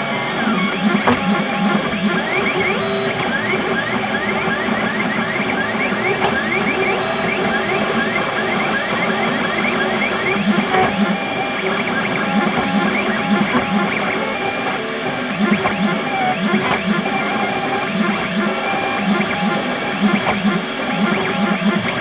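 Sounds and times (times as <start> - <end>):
printer steady hum: 0.0 - 22.0
stepper motor whines: 0.0 - 22.0.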